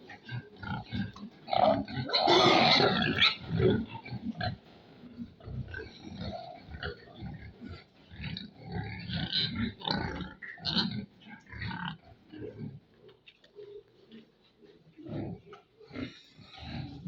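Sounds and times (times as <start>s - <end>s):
pigs grunting: 0.0s - 17.0s.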